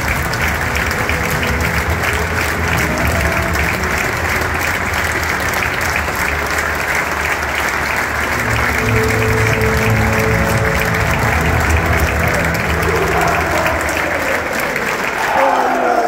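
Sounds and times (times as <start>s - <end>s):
sustained musical notes: 0.0s - 15.1s
stadium crowd applauding: 0.0s - 16.0s.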